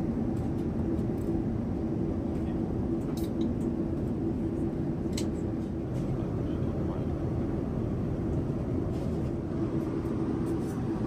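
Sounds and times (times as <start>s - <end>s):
air-conditioning hum: 0.0s - 11.0s
airliner cabin engine drone: 0.0s - 11.0s.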